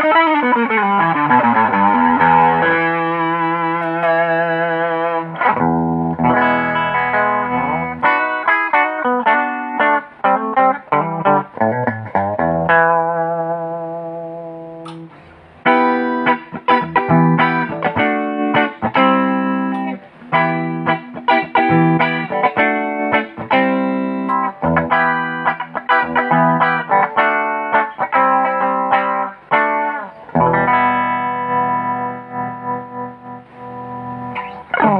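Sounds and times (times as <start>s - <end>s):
solo guitar playing: 0.0s - 34.9s.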